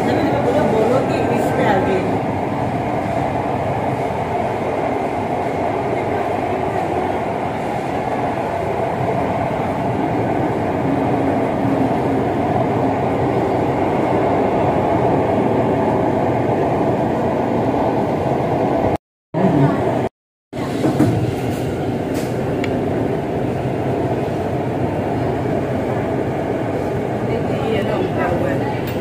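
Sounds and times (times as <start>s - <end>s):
metro train running: 0.0s - 29.0s.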